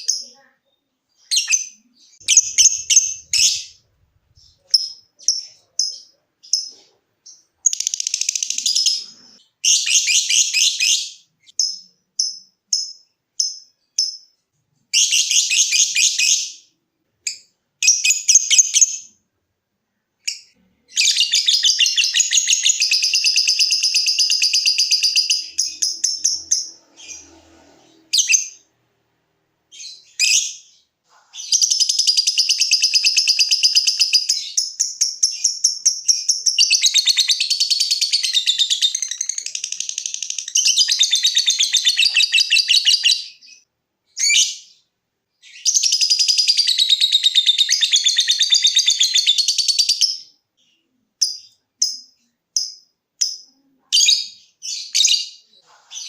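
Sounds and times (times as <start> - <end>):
lovebird chirping: 0.0 - 19.2, 19.9 - 28.8, 29.6 - 56.0.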